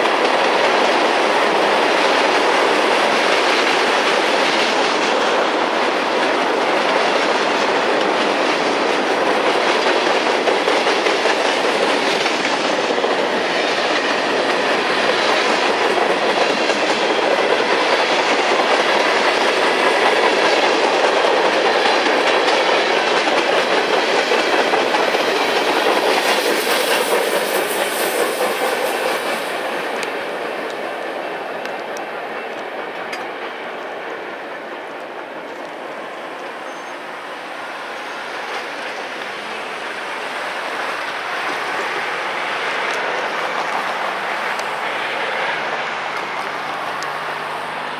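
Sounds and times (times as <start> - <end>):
freight train wheels rattling on rails: 0.0 - 47.9.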